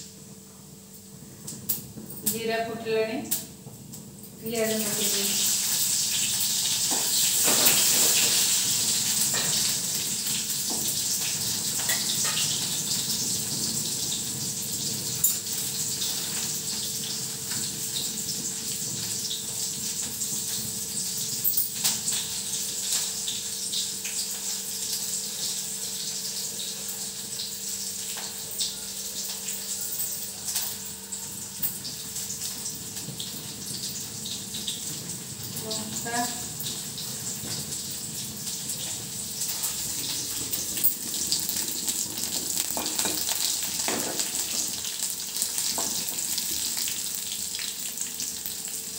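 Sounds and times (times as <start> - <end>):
onion sizzling in hot oil: 1.3 - 48.9.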